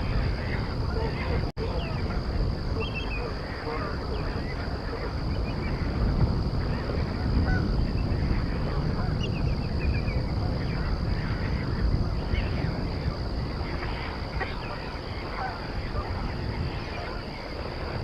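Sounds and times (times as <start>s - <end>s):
cranes and geese calling: 0.0s - 6.0s, 6.6s - 18.0s.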